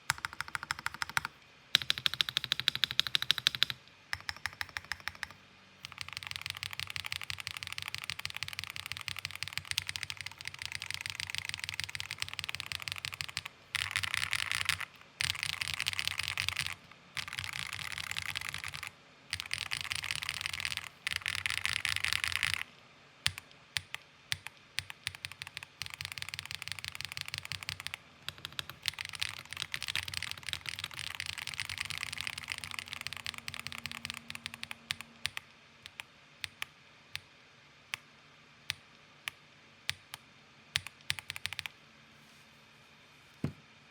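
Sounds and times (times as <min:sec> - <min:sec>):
fast keyboard typing: 0:00.0 - 0:22.7, 0:23.3 - 0:36.6, 0:40.8 - 0:41.7.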